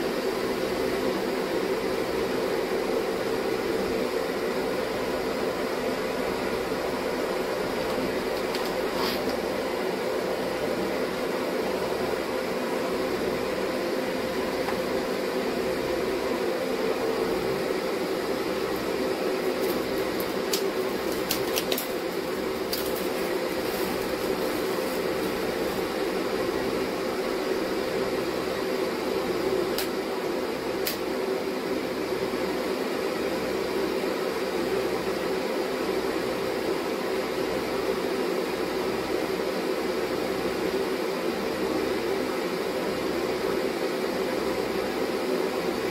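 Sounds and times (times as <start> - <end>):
mechanical whirring hum: 0.0 - 45.9.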